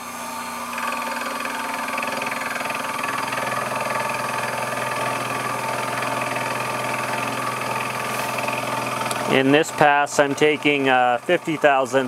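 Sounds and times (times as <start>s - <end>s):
milling machine motor whine: 0.0s - 12.0s
end mill cutting chatter: 0.1s - 12.0s.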